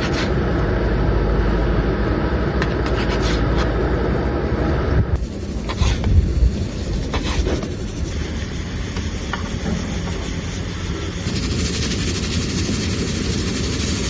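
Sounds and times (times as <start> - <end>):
low rumble and hiss: 0.0 - 12.6.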